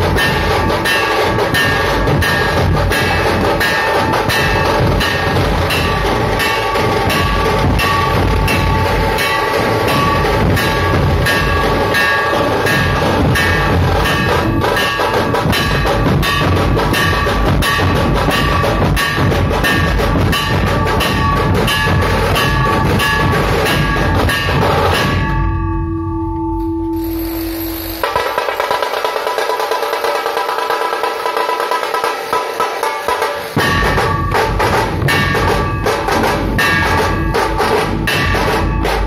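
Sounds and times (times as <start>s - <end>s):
dhol drums beating: 0.0s - 26.2s, 27.0s - 39.0s
steady ringing tone: 0.0s - 28.8s, 33.6s - 39.0s.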